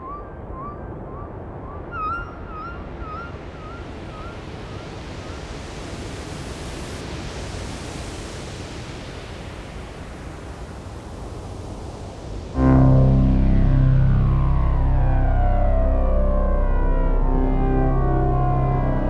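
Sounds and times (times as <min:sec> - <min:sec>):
synthesizer noise like surf: 0:00.0 - 0:19.0.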